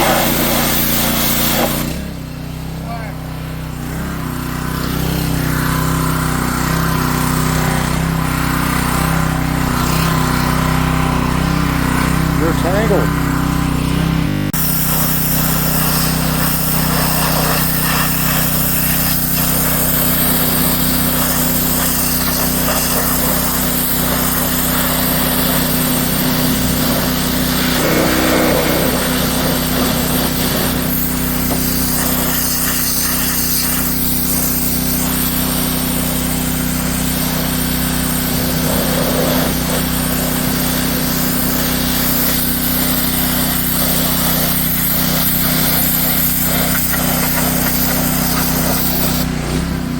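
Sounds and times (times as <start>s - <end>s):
pressure washer engine running: 0.0s - 49.9s.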